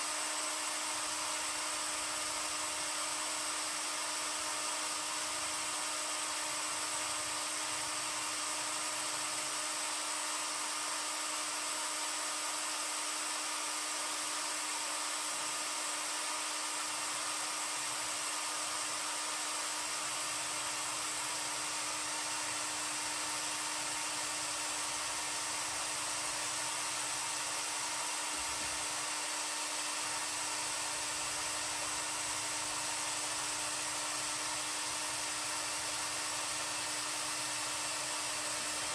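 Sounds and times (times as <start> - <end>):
paint mixer motor whine: 0.0 - 38.9.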